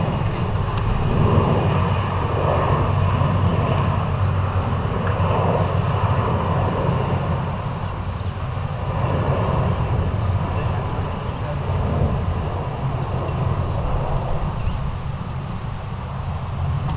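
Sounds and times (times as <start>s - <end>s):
jet airliner engine rumble: 0.0s - 16.9s.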